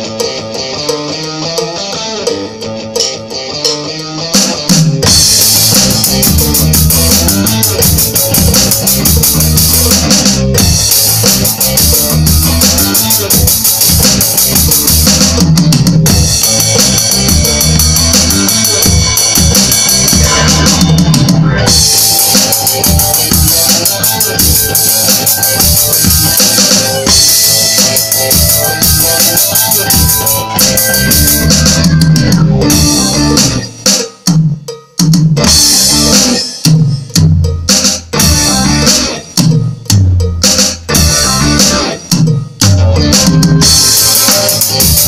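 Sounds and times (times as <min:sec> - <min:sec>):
electronic drum kit: 0:00.0 - 0:45.0
rock music with guitar: 0:00.0 - 0:45.0.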